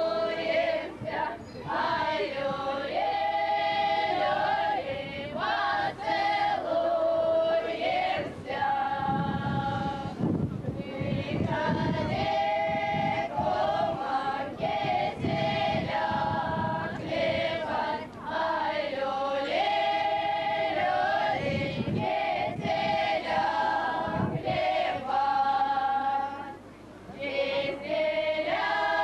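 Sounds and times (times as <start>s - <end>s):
women's choir singing: 0.0s - 10.2s, 10.8s - 29.0s.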